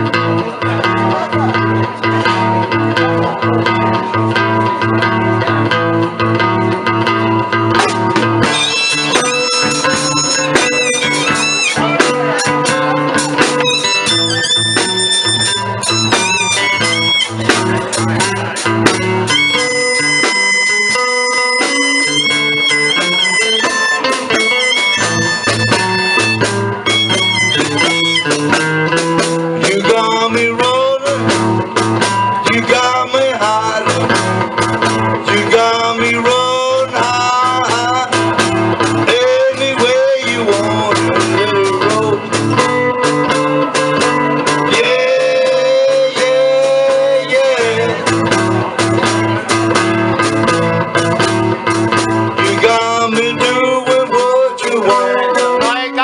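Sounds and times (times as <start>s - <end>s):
lead guitar bending notes: 0.0s - 56.0s
picked blues guitar: 0.0s - 56.0s
steady low rhythm: 0.0s - 56.0s.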